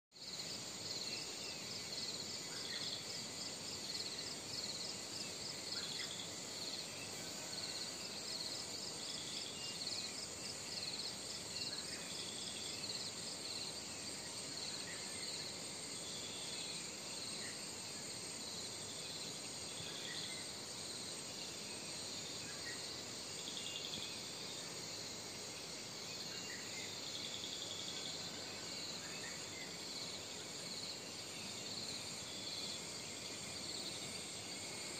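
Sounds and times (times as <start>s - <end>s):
steady outdoor hiss: 0.1s - 34.9s.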